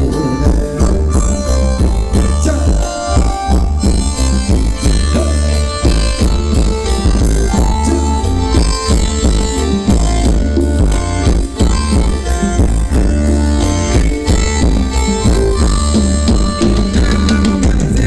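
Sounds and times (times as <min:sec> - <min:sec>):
live band music over loudspeakers: 0:00.0 - 0:18.0.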